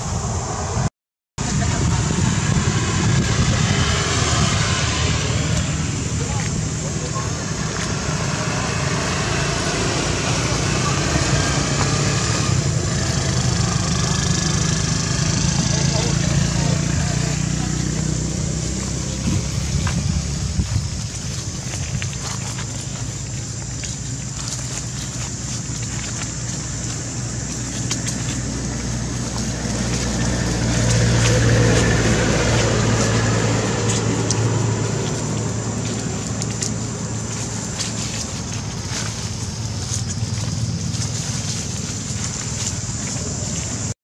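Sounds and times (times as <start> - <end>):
road traffic engine hum: 0.0 - 44.0.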